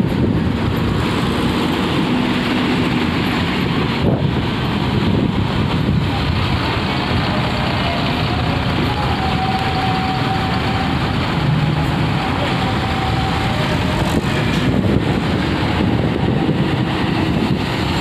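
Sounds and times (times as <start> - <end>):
bus driving slowly: 0.0 - 18.0
ship engines running: 0.0 - 18.0.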